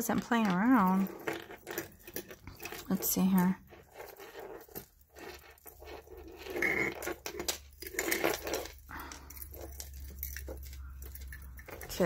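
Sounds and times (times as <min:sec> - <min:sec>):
metal jewelry chains clinking: 0:00.0 - 0:12.0.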